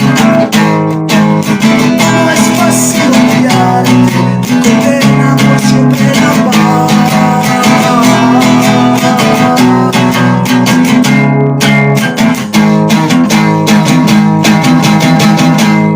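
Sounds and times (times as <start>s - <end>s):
band music with strummed guitar: 0.0s - 15.9s.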